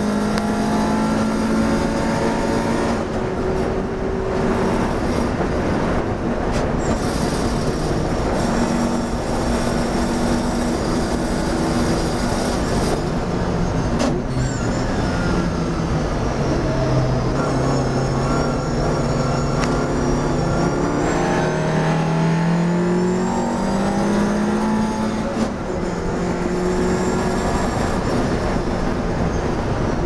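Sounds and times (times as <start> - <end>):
racing car engine running hard: 0.0 - 30.0
road and wind noise: 0.0 - 30.0.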